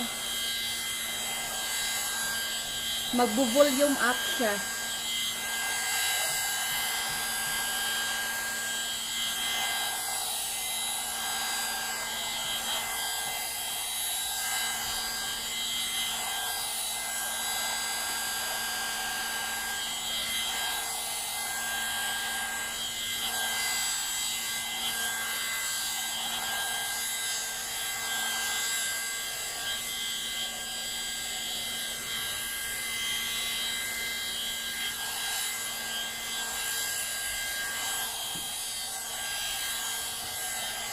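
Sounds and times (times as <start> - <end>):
hot air brush blowing air: 0.0 - 40.9
motor whine: 0.0 - 40.9.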